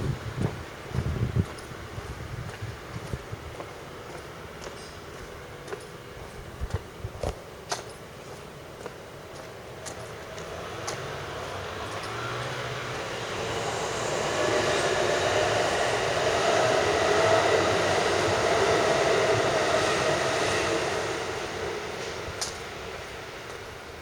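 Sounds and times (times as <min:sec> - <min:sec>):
train passing rumble: 0:00.0 - 0:24.0.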